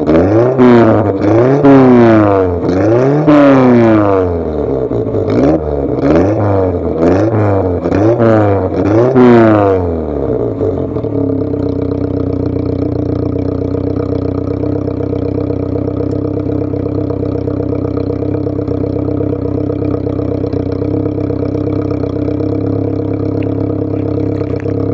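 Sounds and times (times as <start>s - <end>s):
car engine revving and idling: 0.0s - 24.9s.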